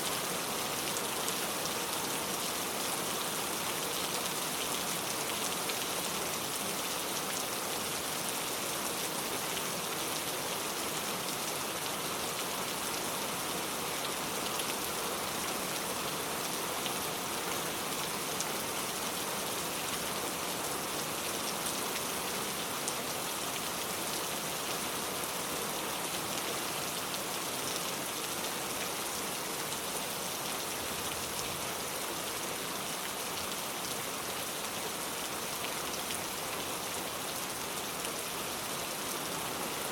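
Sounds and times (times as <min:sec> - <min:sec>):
hiss of rainfall: 0:00.0 - 0:39.9.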